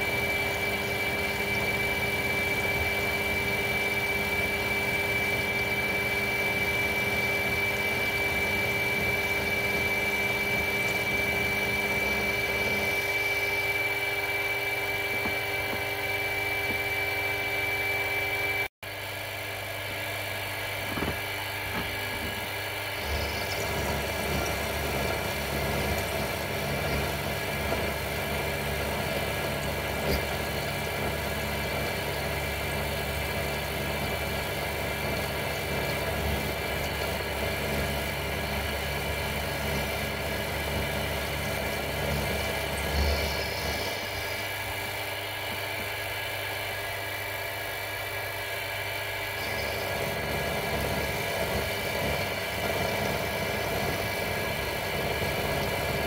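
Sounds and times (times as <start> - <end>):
low rumble of metal cutting: 0.0 - 56.0
milling machine whine: 0.0 - 56.0.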